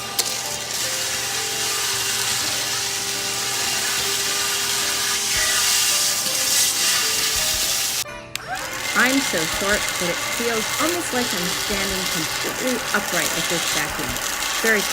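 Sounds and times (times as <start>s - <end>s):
handheld vacuum cleaner running: 0.0s - 14.9s.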